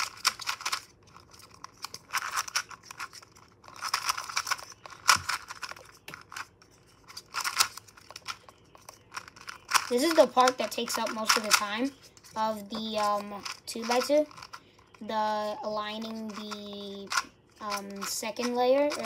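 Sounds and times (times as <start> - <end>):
speed cube plastic clicks: 0.0 - 6.5, 7.1 - 15.0, 16.0 - 19.0.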